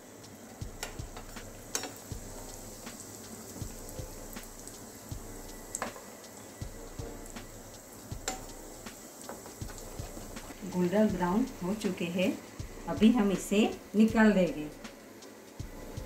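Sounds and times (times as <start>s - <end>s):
patties sizzling in hot oil: 0.0s - 16.0s.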